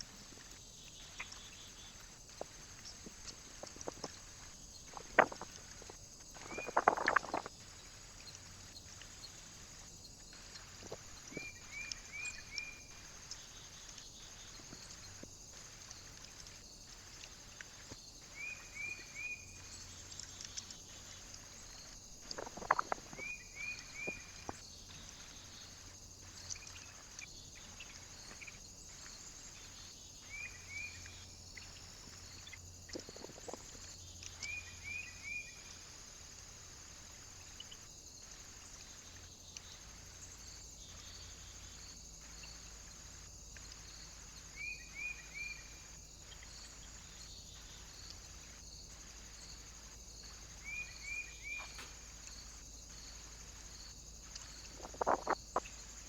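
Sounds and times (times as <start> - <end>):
faint steady hiss: 0.0 - 56.0
small bird chirping: 0.0 - 56.0.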